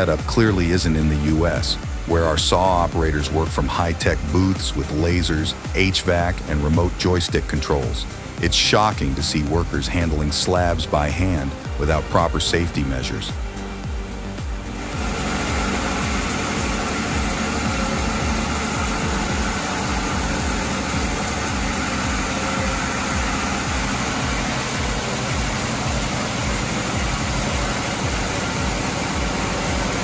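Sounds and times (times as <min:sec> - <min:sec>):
heavy machinery droning: 0:00.0 - 0:30.0.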